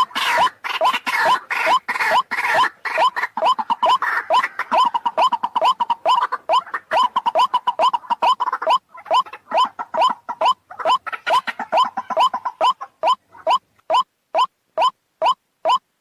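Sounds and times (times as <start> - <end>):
waterhen croaking call: 0.0 - 15.9.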